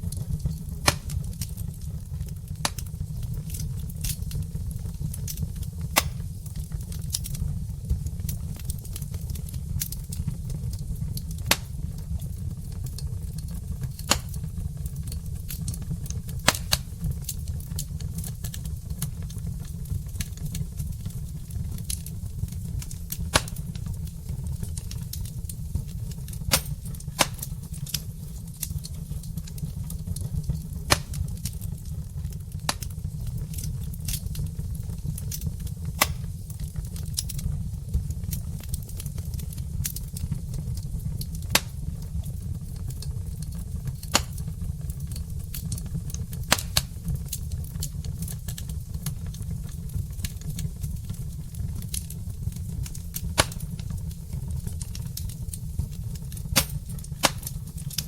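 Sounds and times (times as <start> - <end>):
logs crackling and popping: 0.0 - 58.0
low fire rumble: 0.0 - 58.0.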